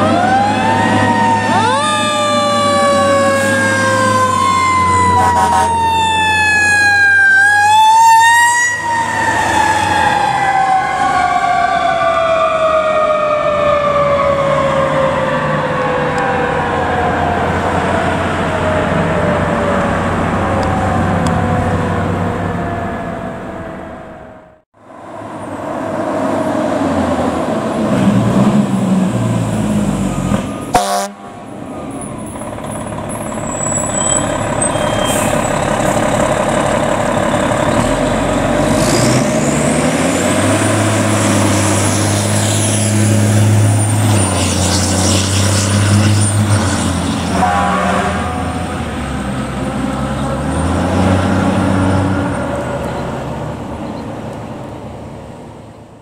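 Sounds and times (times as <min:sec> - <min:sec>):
fire engine diesel engines: 0:00.0 - 0:56.0.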